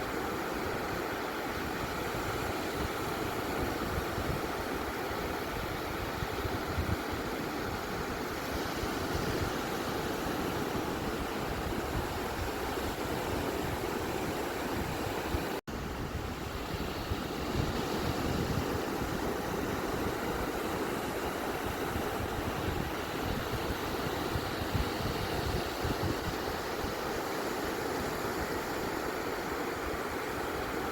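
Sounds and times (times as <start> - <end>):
surf waves rushing: 0.0 - 30.9.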